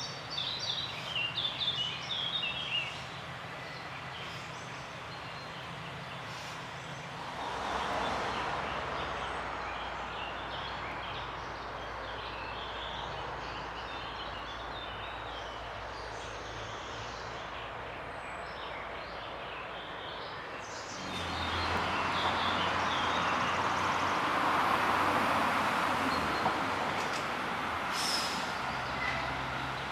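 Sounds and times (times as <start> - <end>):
distant traffic hum: 0.0 - 29.9
passing vehicle rumble: 4.0 - 29.9.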